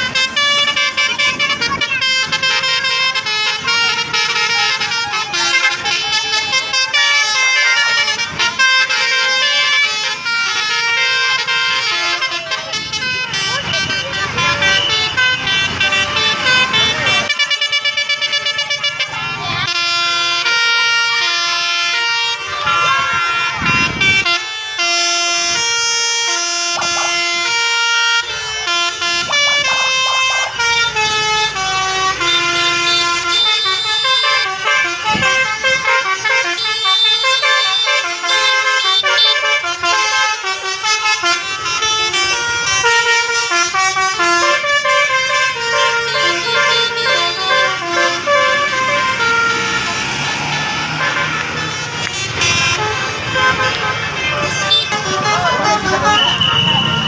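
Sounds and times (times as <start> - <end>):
musical bus air horns: 0.0 - 57.0.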